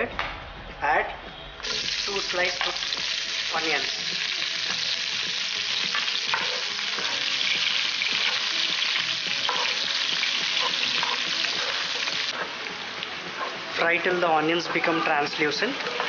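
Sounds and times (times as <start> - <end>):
onions sizzling in hot oil: 1.6 - 13.1, 13.7 - 16.0.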